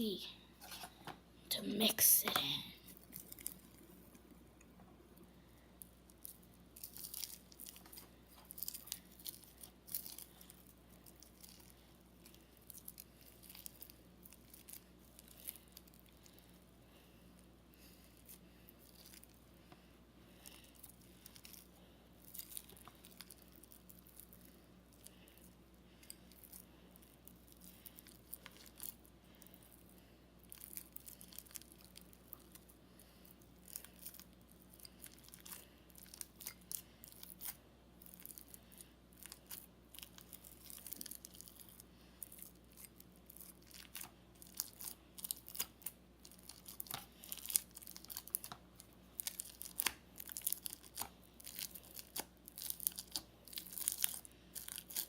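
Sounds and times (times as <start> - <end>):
beads crackling in slime: 1.6 - 3.9, 5.8 - 16.4, 18.1 - 19.4, 20.4 - 55.0.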